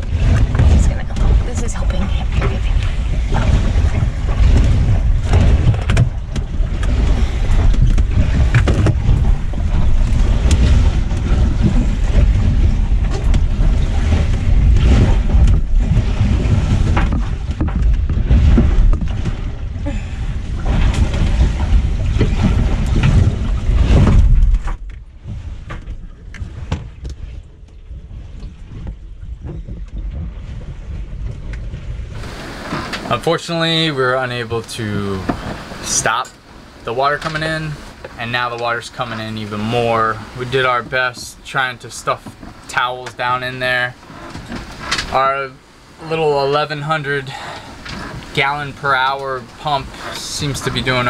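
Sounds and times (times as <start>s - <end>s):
heavy low rumble: 0.0s - 51.0s.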